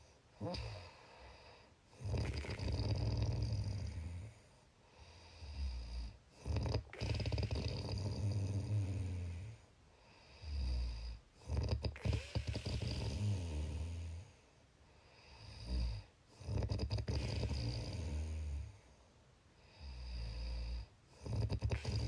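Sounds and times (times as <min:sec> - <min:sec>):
person snoring: 0:00.0 - 0:04.4, 0:05.0 - 0:09.6, 0:10.2 - 0:14.4, 0:15.1 - 0:18.8, 0:19.6 - 0:22.0
quiet breaths: 0:00.0 - 0:22.0.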